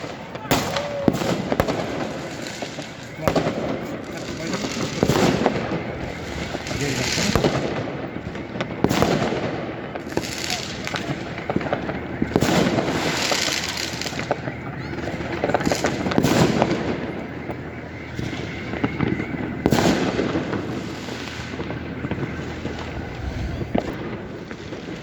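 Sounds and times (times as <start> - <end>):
fireworks and firecrackers popping: 0.0 - 25.0.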